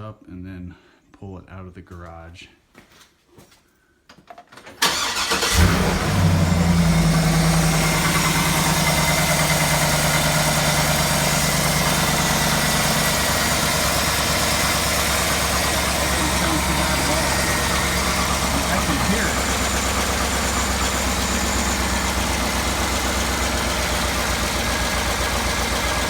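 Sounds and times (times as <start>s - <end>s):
engine clatter: 4.8s - 26.0s
engine idling: 4.8s - 26.0s.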